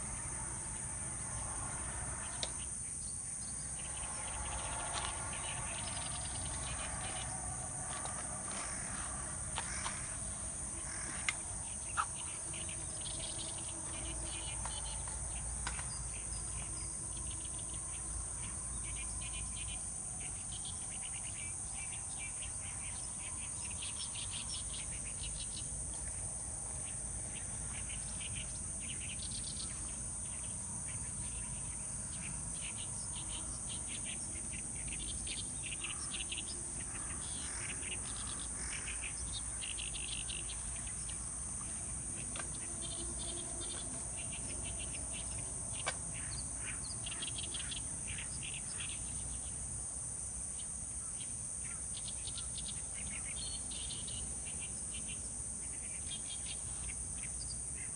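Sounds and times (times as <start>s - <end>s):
high-pitched insect chorus: 0.0s - 57.9s
birds chirping and trilling: 2.2s - 26.2s, 26.8s - 49.6s.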